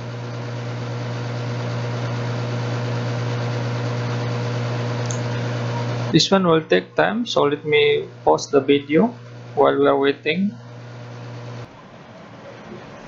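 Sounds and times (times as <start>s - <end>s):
cooling fan humming: 0.0s - 13.0s.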